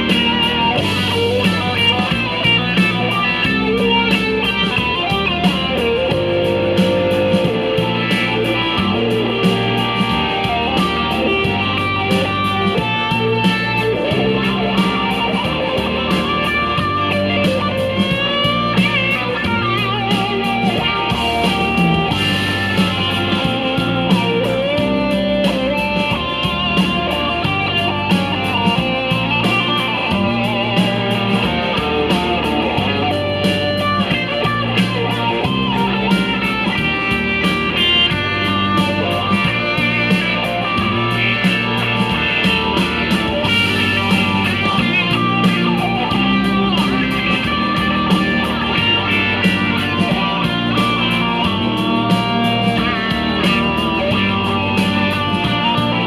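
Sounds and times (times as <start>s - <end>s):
blues-rock electric guitar music: 0.0s - 56.0s.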